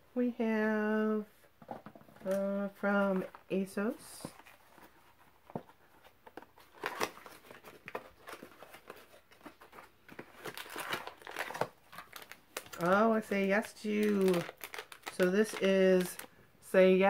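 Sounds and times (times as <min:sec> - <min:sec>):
paper and packaging rustling: 0:01.6 - 0:16.4.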